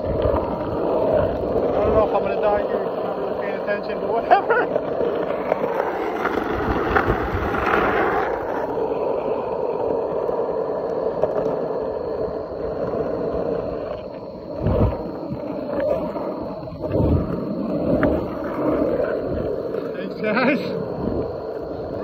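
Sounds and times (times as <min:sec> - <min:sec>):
skateboard wheels rolling on asphalt: 0:00.0 - 0:22.0.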